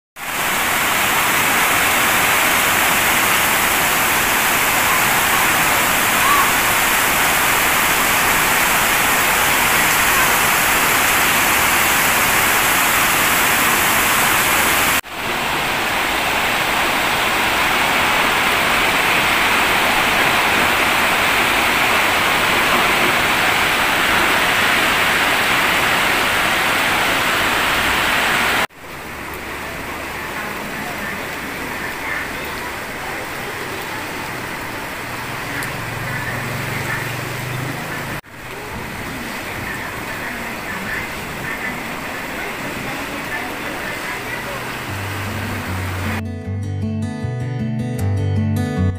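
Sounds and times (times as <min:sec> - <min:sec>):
heavy rain hissing: 0:00.2 - 0:46.2.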